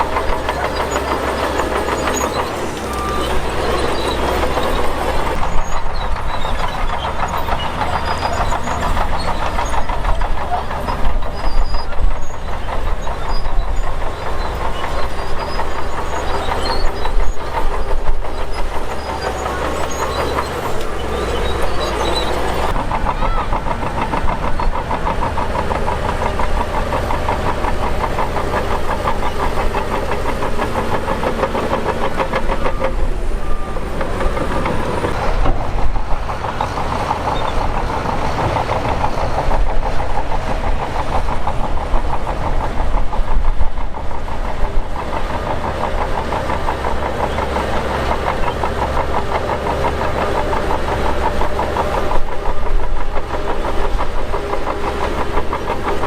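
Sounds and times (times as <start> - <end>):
bulldozer diesel engine: 0.0 - 56.0
steel tracks clattering: 0.0 - 56.0.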